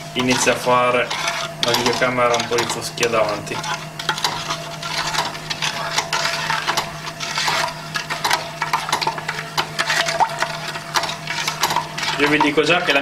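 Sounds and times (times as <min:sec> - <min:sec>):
spoon stirring and scraping pot: 0:00.0 - 0:13.0
steady low hum: 0:00.0 - 0:13.0.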